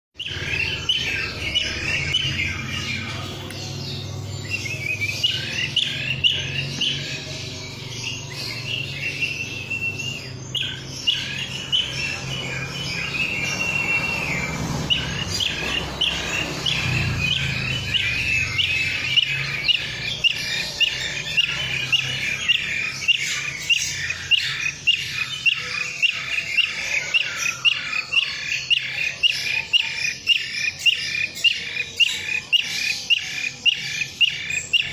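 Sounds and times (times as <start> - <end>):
bird calling in rolling chirps: 0.2 - 34.9.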